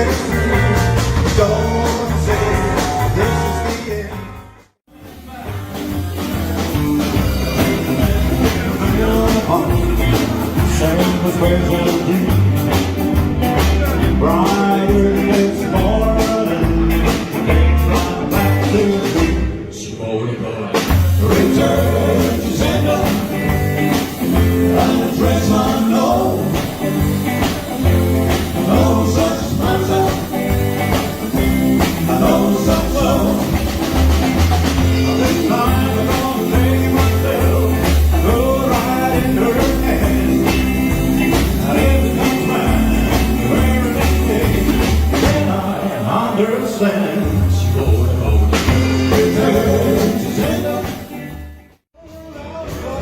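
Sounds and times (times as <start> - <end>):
band playing rock and roll: 0.0 - 19.8, 20.6 - 53.0.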